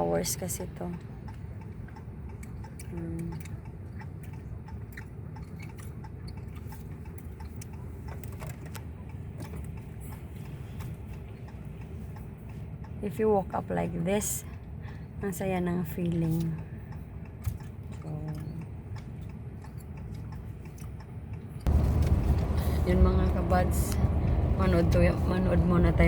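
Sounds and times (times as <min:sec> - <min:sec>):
car road and engine rumble: 0:00.0 - 0:26.0
light ticks and clicks: 0:00.3 - 0:22.8.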